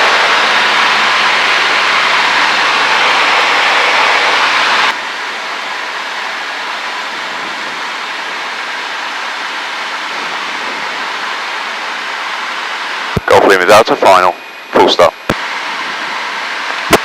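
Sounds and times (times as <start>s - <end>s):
small plane cabin noise: 0.0s - 17.0s.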